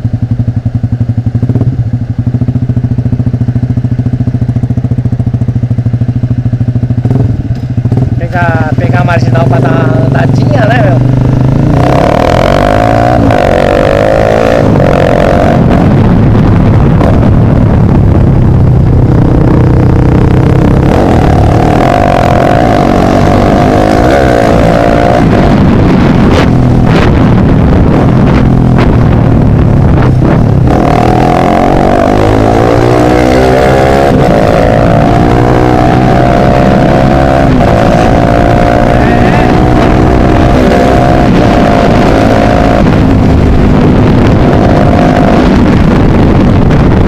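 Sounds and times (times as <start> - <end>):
motorcycle accelerating: 0.0 - 47.0.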